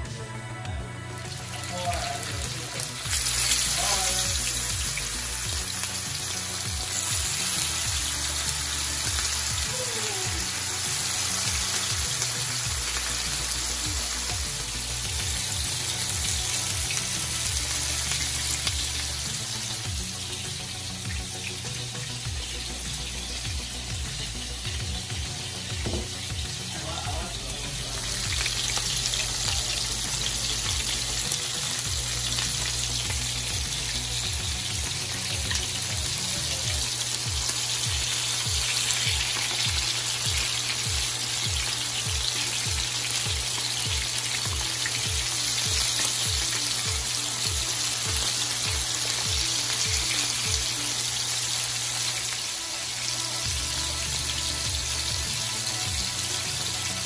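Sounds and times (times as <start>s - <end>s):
background music with low beat: 0.0s - 52.4s, 53.0s - 57.0s
steaks sizzling in pan: 1.1s - 57.0s.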